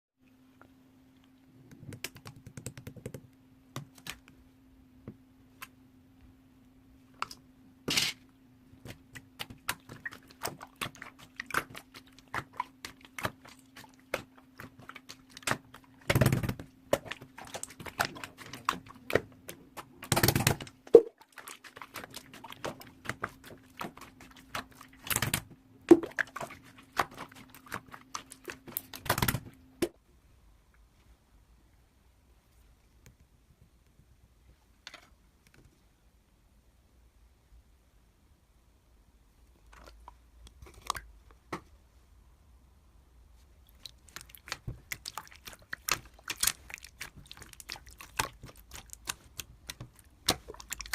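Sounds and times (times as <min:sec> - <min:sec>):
faint steady hum: 0:00.2 - 0:50.9.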